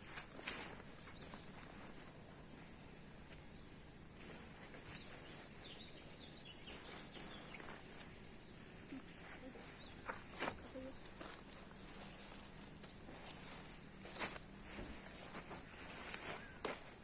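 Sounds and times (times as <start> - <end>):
insects droning: 0.0 - 17.0
faint chirping calls: 0.5 - 2.4, 3.1 - 17.0.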